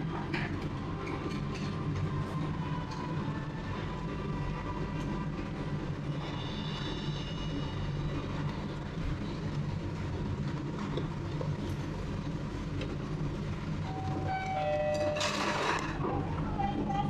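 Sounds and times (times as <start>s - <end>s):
conveyor machinery rumble: 0.0s - 17.0s.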